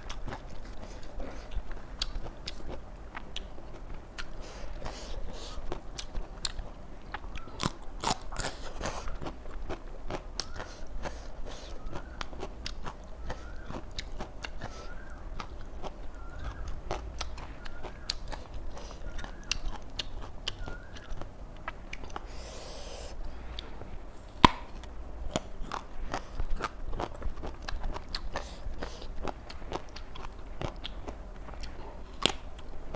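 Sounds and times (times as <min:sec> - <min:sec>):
chewing crunchy raw vegetables: 0:00.0 - 0:32.9.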